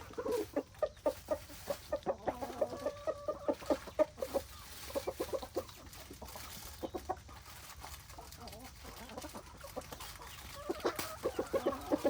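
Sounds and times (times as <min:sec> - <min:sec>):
chickens clucking: 0:00.0 - 0:12.0
drawn-out chicken call: 0:00.0 - 0:12.0.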